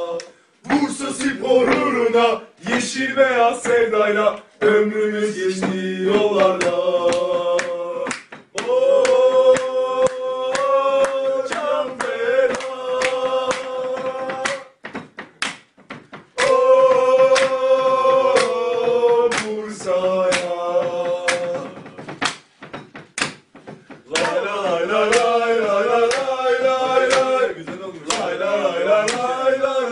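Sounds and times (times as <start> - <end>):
chorus of voices chanting: 0.0 - 14.8, 16.4 - 22.1, 24.1 - 29.9.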